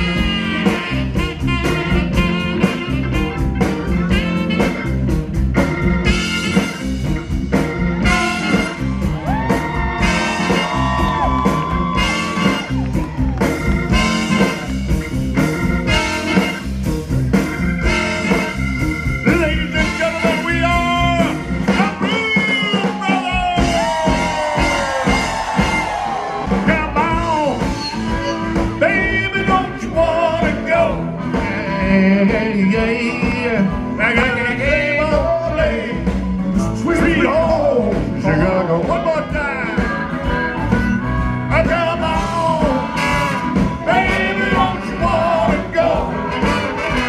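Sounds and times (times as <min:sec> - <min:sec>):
drums steady beat: 0:00.0 - 0:47.0
live blues band playing: 0:00.0 - 0:47.0.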